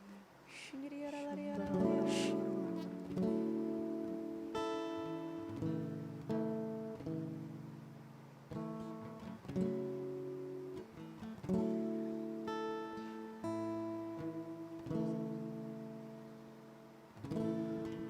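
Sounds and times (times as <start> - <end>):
acoustic guitar strumming chords: 0.9 - 18.0.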